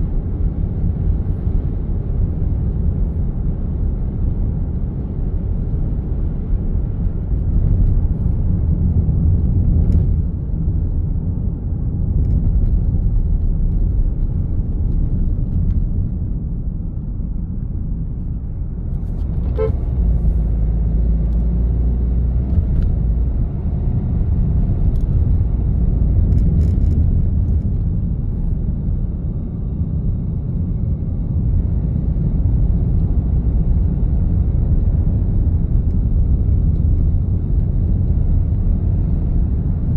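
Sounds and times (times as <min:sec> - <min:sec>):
road traffic rumble: 0:00.0 - 0:39.9
vehicle engine and tyres: 0:00.0 - 0:39.9.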